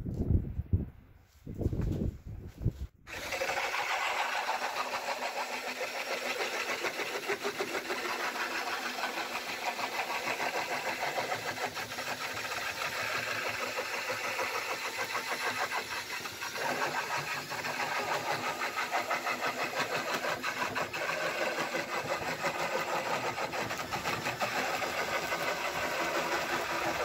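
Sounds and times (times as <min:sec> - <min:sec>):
electric drill spinning: 0:03.1 - 0:27.0
knife shaving wood with chatter: 0:03.1 - 0:27.0.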